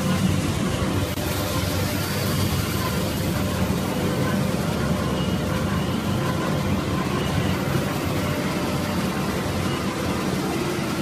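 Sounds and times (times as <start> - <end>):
loud steady machine din: 0.0 - 11.0.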